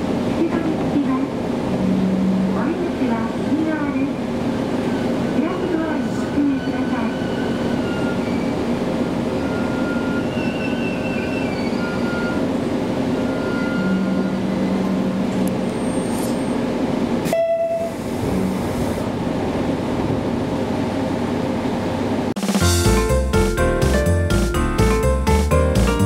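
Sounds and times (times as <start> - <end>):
railcar running hum: 0.0 - 26.0.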